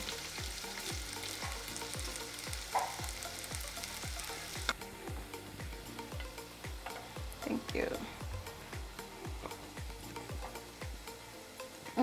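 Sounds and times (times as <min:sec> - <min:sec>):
potatoes sizzling in oil: 0:00.0 - 0:12.0
soft music with steady beat: 0:00.0 - 0:12.0.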